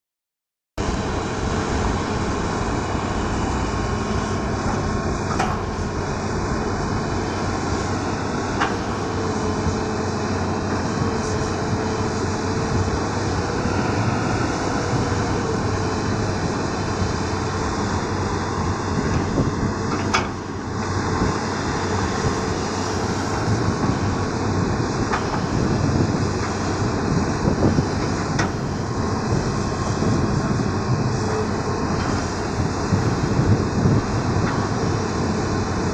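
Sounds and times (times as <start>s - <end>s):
excavator diesel engine running: 0.8s - 35.9s.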